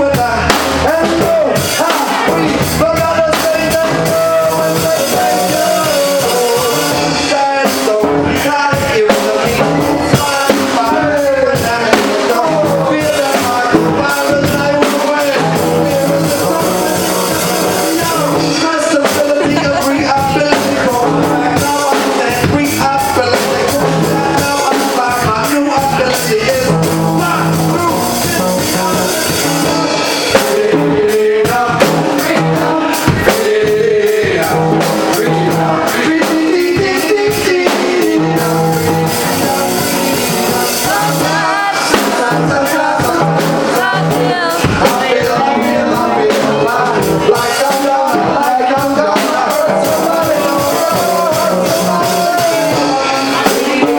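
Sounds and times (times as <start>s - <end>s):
acoustic guitar: 0.0s - 53.9s
drum kit: 0.0s - 53.9s
electric bass: 0.0s - 53.9s
person singing: 0.0s - 53.9s.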